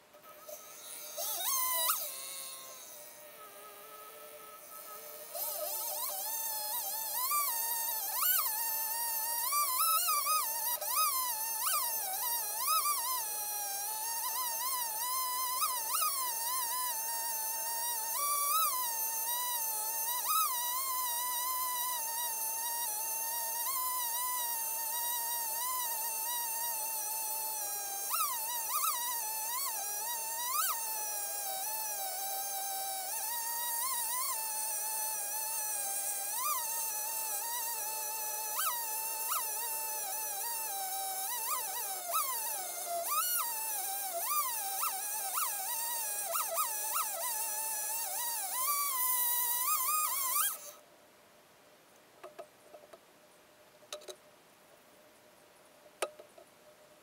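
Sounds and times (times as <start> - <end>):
chainsaw engine cutting wood: 0.0 - 50.8.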